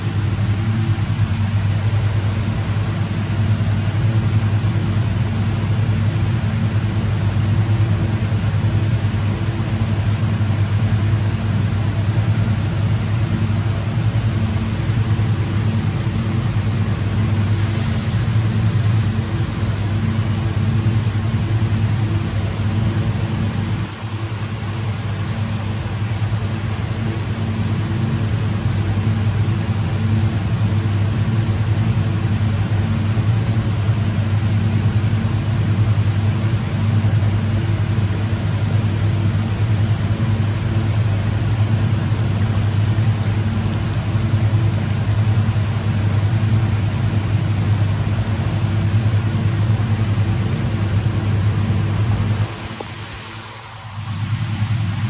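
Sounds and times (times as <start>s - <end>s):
train equipment humming: 0.0s - 55.0s.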